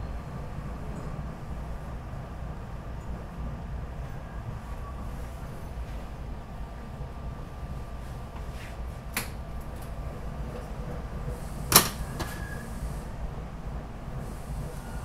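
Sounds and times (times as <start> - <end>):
train car low rumble: 0.0 - 15.0.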